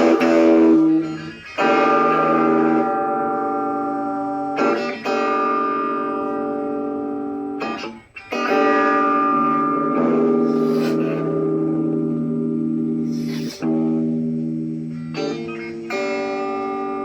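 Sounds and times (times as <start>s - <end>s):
guitar chords strummed: 0.0s - 17.0s.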